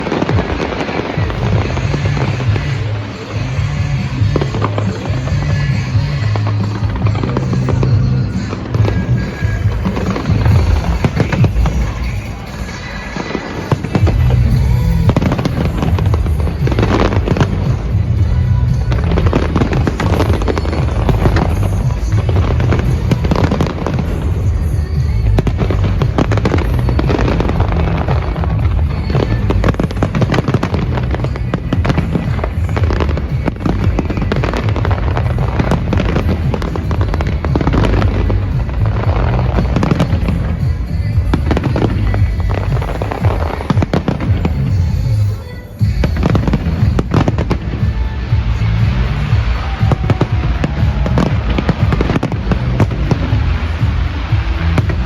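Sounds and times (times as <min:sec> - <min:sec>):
fireworks bangs and crackling: 0:00.0 - 0:55.0
music playing: 0:00.0 - 0:55.0.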